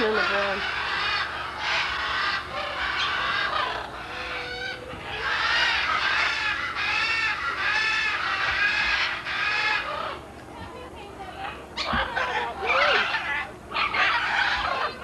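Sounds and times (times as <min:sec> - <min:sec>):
parrots squawking: 0:00.0 - 0:10.3, 0:11.2 - 0:15.0.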